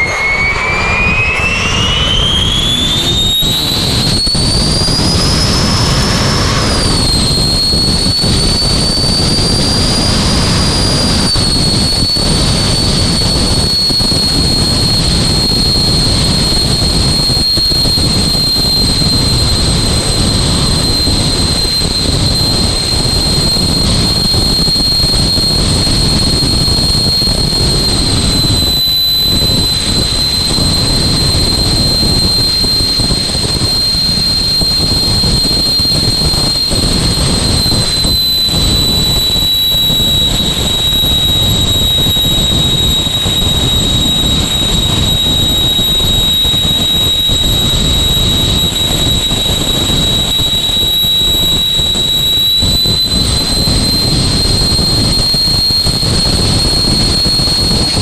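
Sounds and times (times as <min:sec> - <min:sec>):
jet engine whine and rumble: 0:00.0 - 0:58.0.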